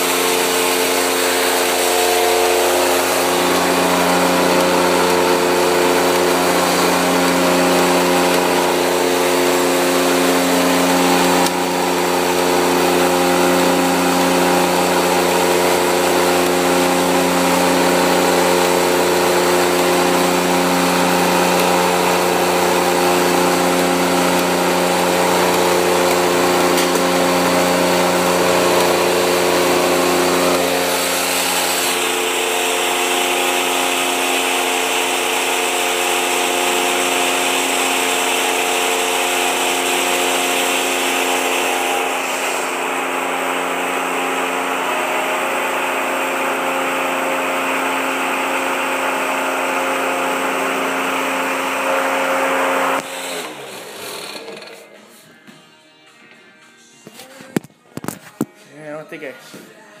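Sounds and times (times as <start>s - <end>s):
electric motor humming: 0.0s - 54.9s.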